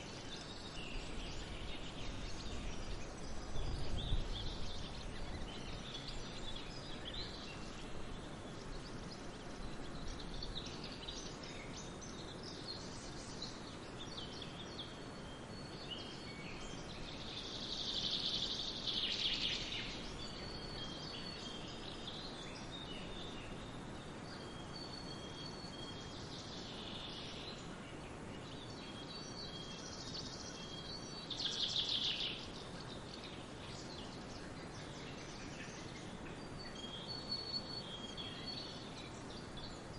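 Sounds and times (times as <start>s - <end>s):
bird trilling song: 0.0s - 39.9s
songbirds chirping: 0.0s - 39.9s
wind: 0.0s - 39.9s.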